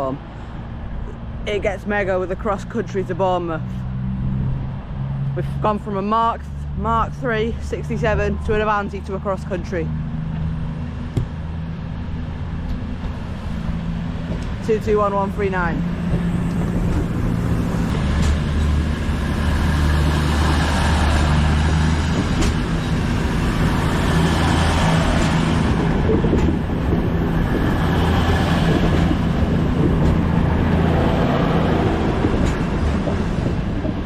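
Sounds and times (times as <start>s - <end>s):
diesel train engines droning: 0.0s - 34.0s.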